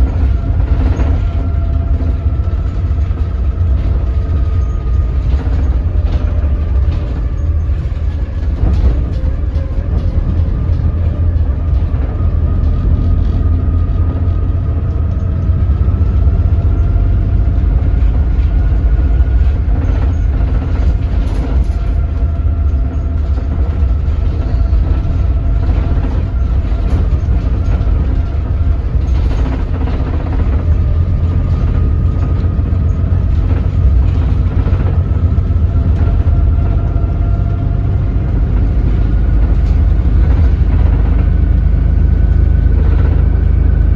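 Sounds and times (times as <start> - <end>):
bus diesel engine rumble: 0.0 - 43.9
faint engine whine: 0.0 - 43.9.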